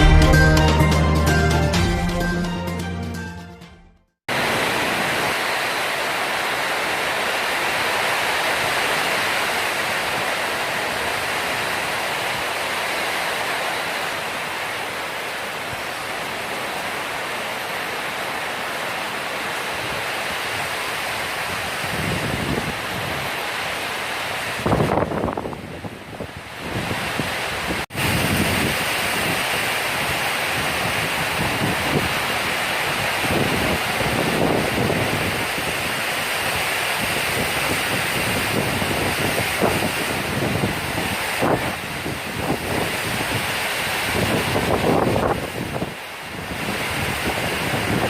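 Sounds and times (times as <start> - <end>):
floodwater rushing: 4.3 - 48.0.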